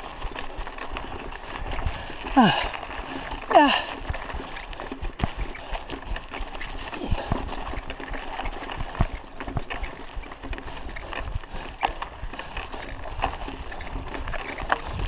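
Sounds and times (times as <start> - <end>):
bike knocking and rattling: 0.0 - 15.0
bike tyres crunching on gravel: 0.0 - 15.0.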